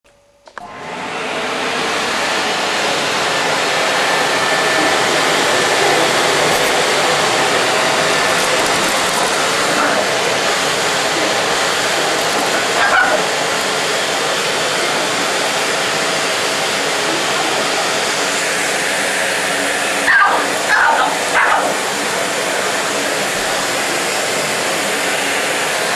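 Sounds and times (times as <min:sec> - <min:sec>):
vacuum cleaner running: 0:00.4 - 0:25.9.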